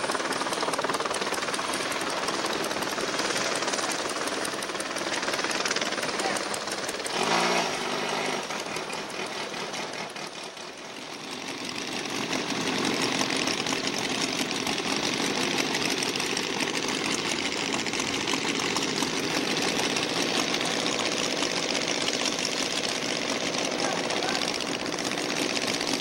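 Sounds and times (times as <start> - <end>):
buzzy aircraft engine drone: 0.0 - 26.0.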